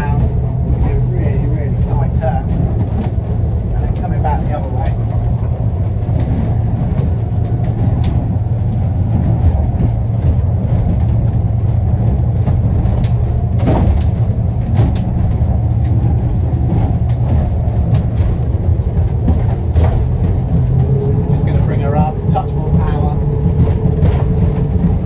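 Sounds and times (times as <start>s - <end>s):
outboard engines rumbling: 0.0s - 25.0s
water rushing on hull: 0.0s - 25.0s.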